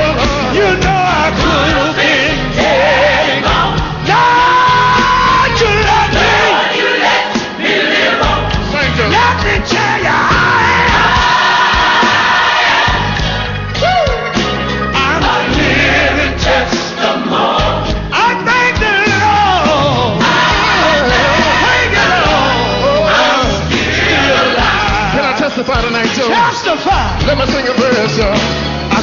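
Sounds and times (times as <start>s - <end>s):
band playing gospel music: 0.0s - 29.0s.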